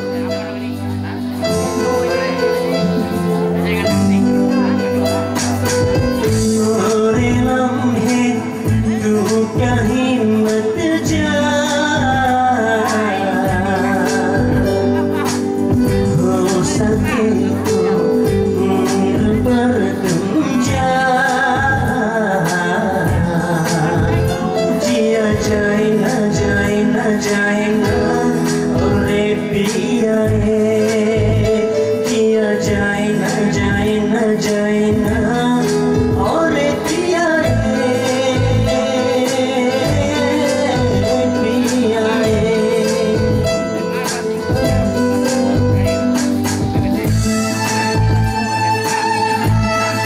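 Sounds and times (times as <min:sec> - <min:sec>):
electronic keyboard: 0:00.0 - 0:50.0
man singing into a microphone: 0:00.0 - 0:50.0
steady drum beat: 0:00.0 - 0:50.0.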